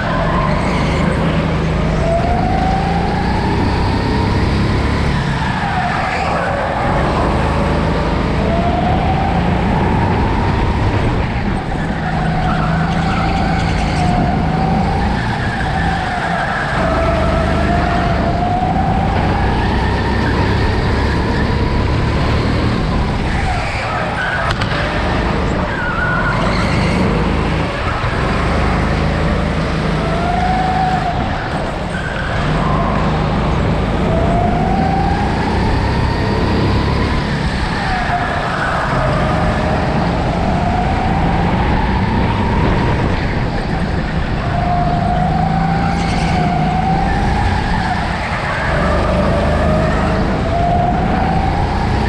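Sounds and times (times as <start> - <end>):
go-kart engine at speed: 0.0 - 52.0.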